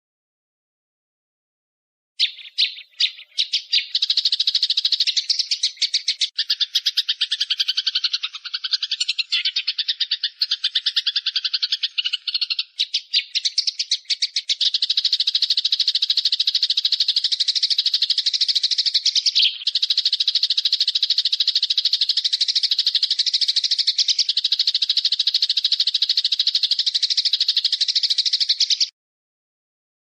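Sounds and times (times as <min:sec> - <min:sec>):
bird trilling: 0:02.2 - 0:28.9.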